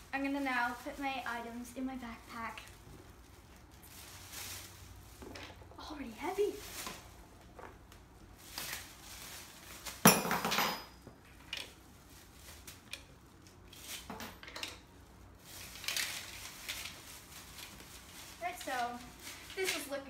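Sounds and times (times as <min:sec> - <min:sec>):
plastic bag rustling: 0:00.0 - 0:10.2, 0:11.0 - 0:20.0.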